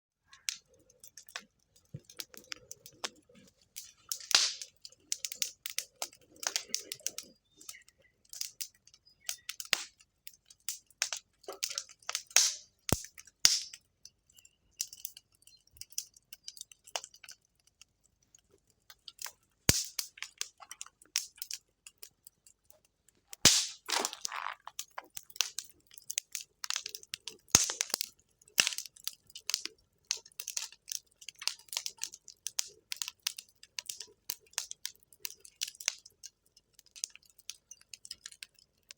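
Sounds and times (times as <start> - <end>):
wood fire crackling and popping: 0.2 - 38.9.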